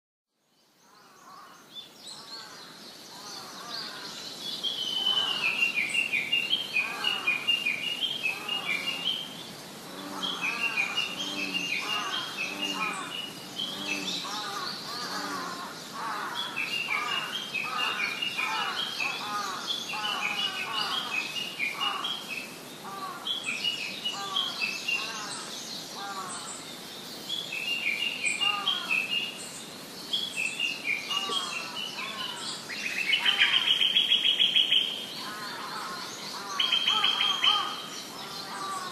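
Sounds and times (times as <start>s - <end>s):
other birds calling softly: 0.8s - 38.9s.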